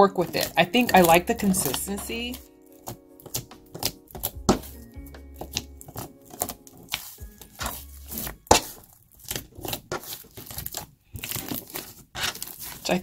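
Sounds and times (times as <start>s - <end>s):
slime squelching and crackling: 0.0s - 13.0s.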